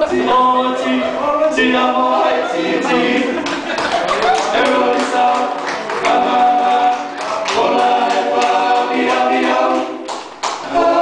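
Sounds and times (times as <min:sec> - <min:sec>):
men singing a cappella: 0:00.0 - 0:11.0.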